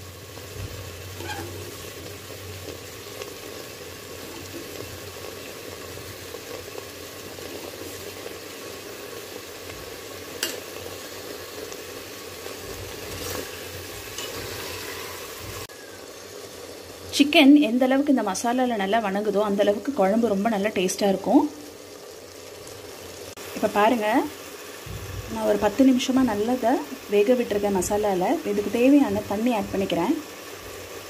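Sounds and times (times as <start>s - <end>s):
chicken sizzling in oil: 0.0s - 31.0s.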